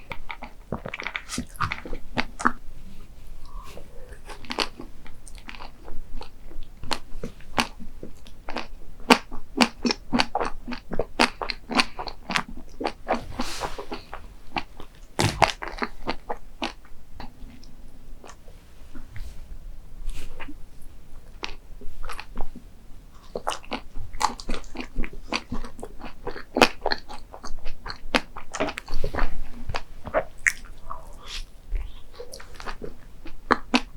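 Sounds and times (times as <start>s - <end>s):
person chewing crunchy food: 0.0s - 2.7s, 3.4s - 19.0s, 21.2s - 33.9s.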